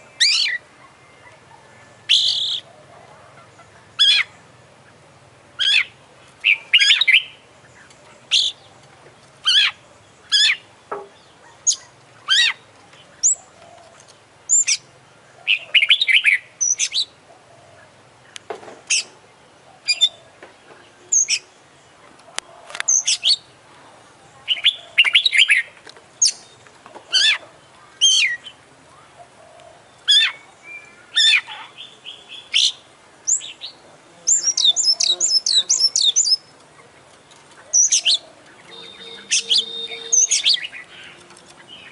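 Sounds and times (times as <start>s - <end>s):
bird singing varied phrases: 0.0s - 2.8s, 3.4s - 22.0s, 22.8s - 41.9s.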